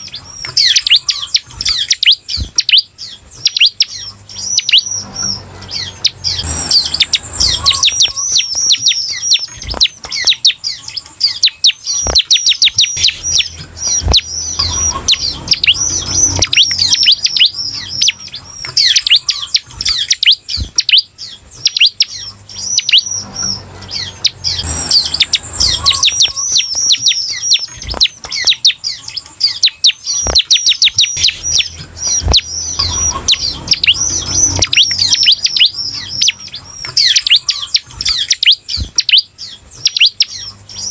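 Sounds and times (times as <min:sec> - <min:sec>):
bird singing high chirps: 0:00.0 - 0:40.9.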